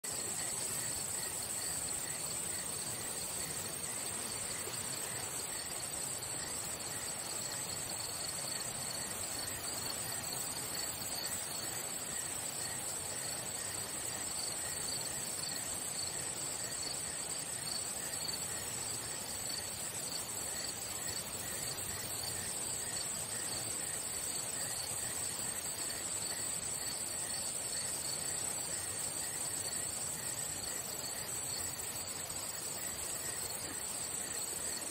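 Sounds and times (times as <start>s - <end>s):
pulsing insect trill: 0.1s - 34.9s.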